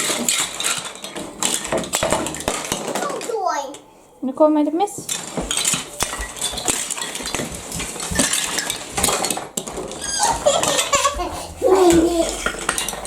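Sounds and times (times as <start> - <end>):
dishes and cutlery clattering: 0.0 - 3.4, 5.0 - 13.0.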